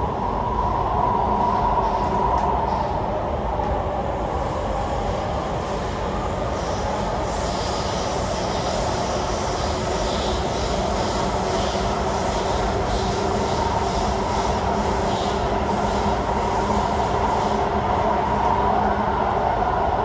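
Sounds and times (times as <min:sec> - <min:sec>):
metro train rumbling on track: 0:00.0 - 0:20.0
train whine: 0:00.0 - 0:20.0.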